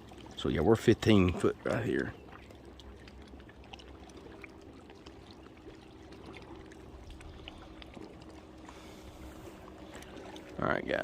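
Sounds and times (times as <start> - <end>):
low rumble of wind: 0.0 - 11.0
small splashes and drips: 0.0 - 11.0
waves lapping against a kayak hull: 0.0 - 11.0.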